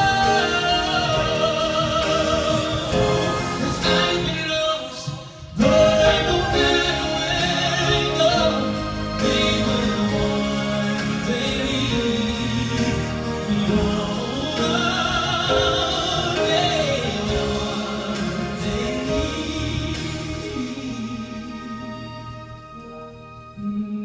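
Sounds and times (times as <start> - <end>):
man singing a slow ballad: 0.0 - 22.5
grand piano: 0.0 - 24.0
string quartet: 0.0 - 24.0.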